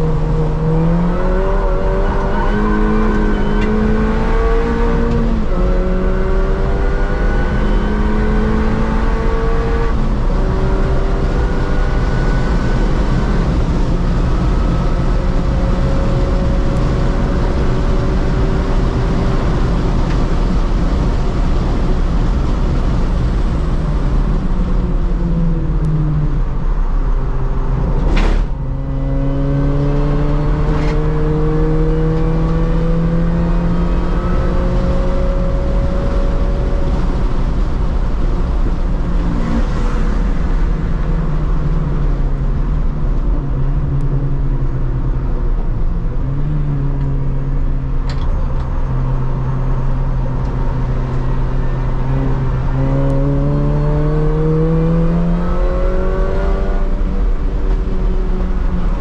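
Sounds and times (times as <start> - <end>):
car engine driven hard: 0.0 - 59.0.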